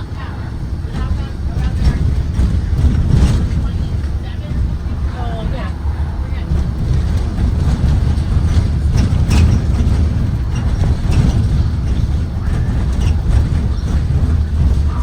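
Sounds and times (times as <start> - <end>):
bus engine low rumble: 0.0 - 15.0.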